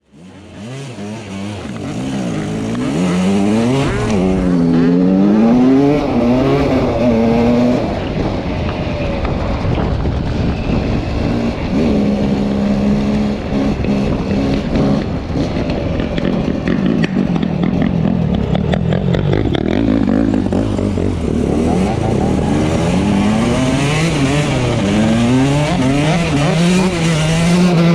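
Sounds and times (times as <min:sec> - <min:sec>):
dirt bike engine revving: 0:00.0 - 0:08.4, 0:09.7 - 0:27.9.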